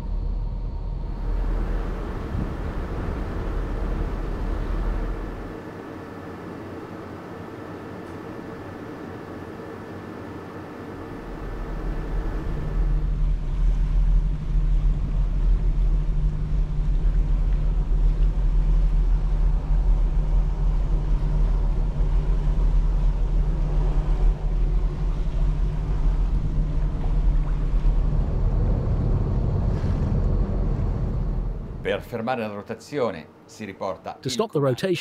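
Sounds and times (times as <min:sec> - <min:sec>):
diesel engines low rumble: 0:00.0 - 0:32.2.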